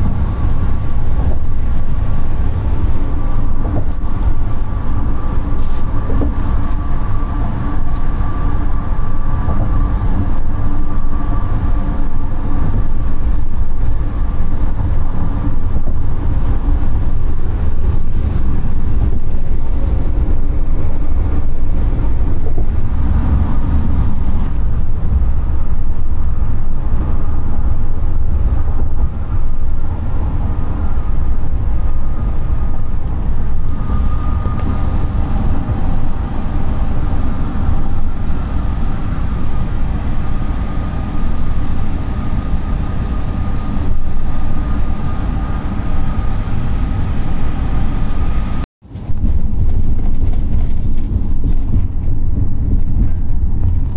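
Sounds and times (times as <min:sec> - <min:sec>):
faint steady whine: 0:00.0 - 0:53.9
road rumble inside moving van: 0:00.0 - 0:53.9.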